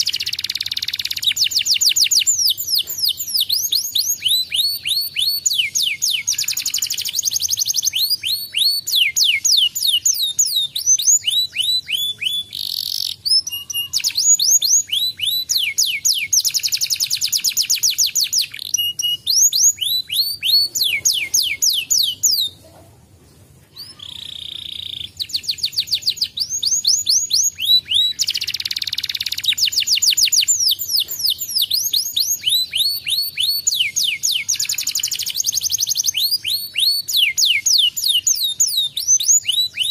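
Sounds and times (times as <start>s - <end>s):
canary singing trills: 0.0s - 22.9s, 23.7s - 39.9s.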